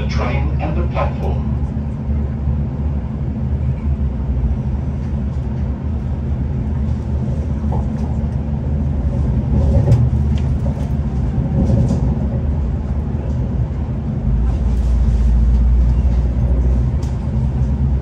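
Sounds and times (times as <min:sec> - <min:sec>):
train rumbling from inside carriage: 0:00.0 - 0:18.0.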